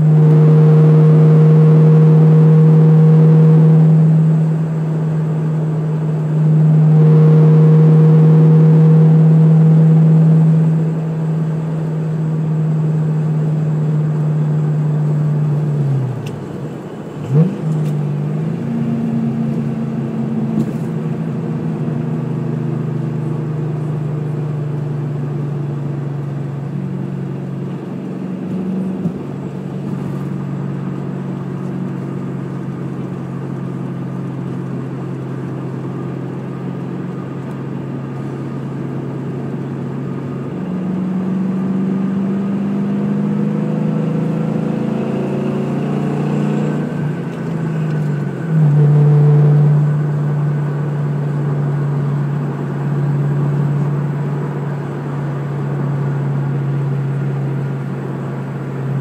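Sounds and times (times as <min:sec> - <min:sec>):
car engine cruising: 0:00.0 - 0:59.0.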